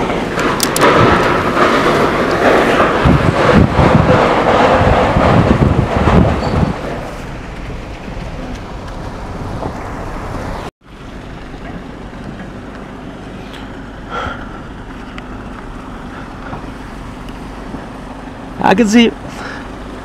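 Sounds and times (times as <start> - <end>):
car engine: 0.0 - 20.0
car road noise: 0.0 - 20.0
wind: 0.0 - 20.0.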